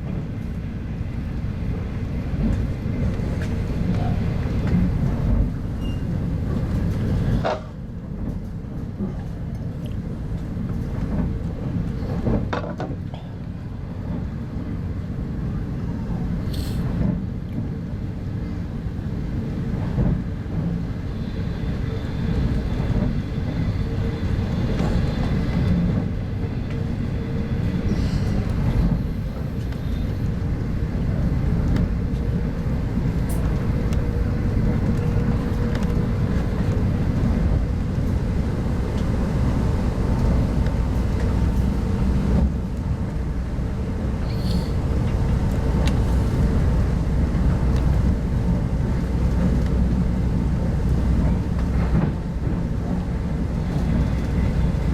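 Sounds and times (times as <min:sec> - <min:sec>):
wheels rumbling on track: 0:00.0 - 0:54.9.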